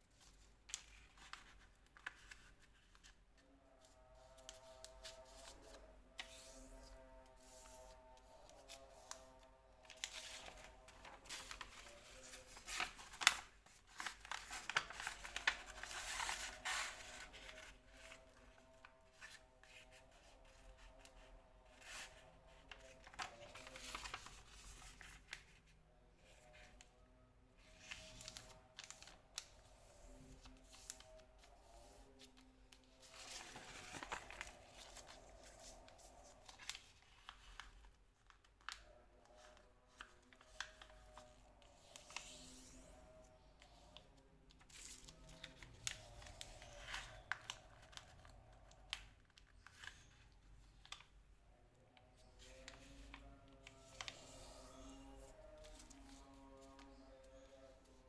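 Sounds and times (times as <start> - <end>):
faint background music: 0.0 - 58.0
paper rustling and creasing: 0.1 - 26.9, 27.6 - 51.1, 52.2 - 58.0.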